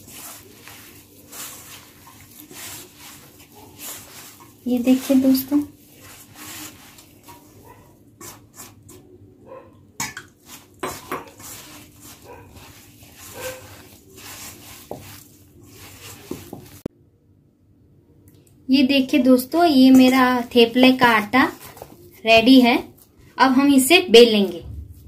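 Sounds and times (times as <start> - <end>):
hands kneading wet dough: 0.0 - 9.7, 10.3 - 16.9, 19.2 - 25.0.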